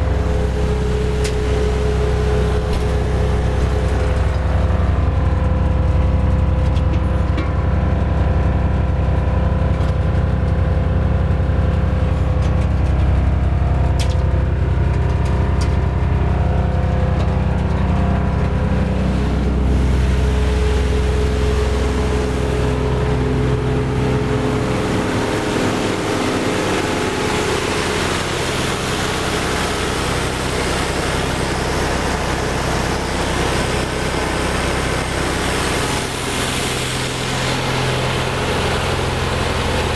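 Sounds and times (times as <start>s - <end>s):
wood chipper engine droning: 0.0s - 39.9s.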